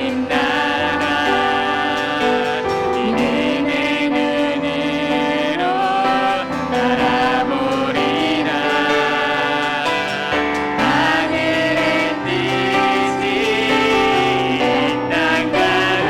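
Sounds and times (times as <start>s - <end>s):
people singing slow melody: 0.0s - 16.0s
piano accompaniment: 0.0s - 16.0s.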